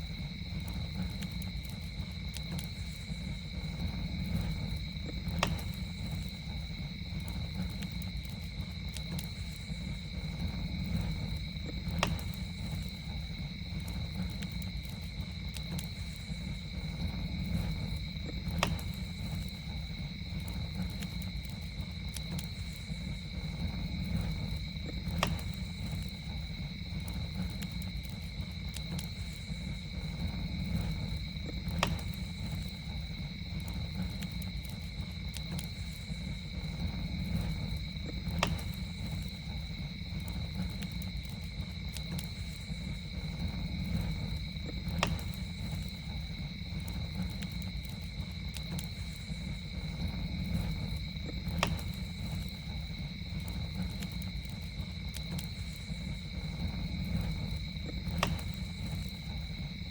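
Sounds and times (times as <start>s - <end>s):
campfire crackling: 0.0s - 59.9s
night insects trilling: 0.0s - 59.9s.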